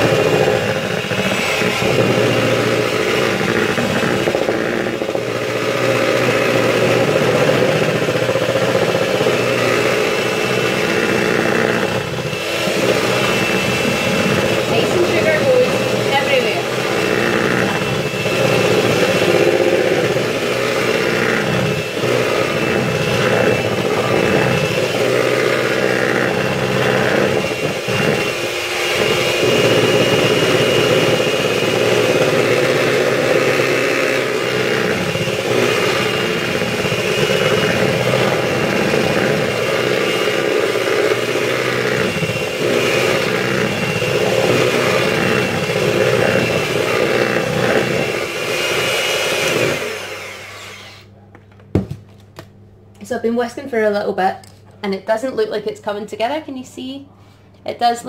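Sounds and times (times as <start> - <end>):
electric hand mixer whisking: 0.0 - 51.1.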